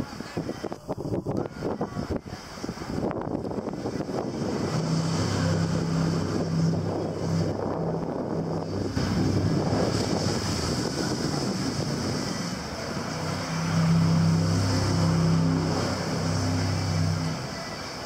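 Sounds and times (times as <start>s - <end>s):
boat engine drone: 0.0s - 18.0s
boat rushing through spray: 0.0s - 18.0s.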